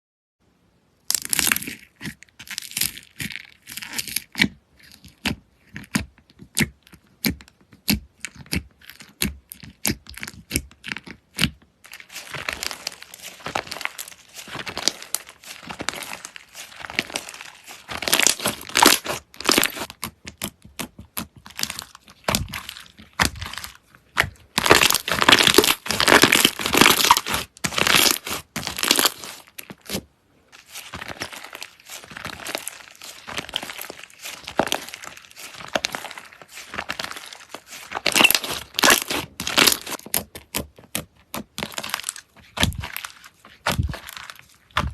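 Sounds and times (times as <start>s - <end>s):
slime squished by hand: 1.1s - 44.9s.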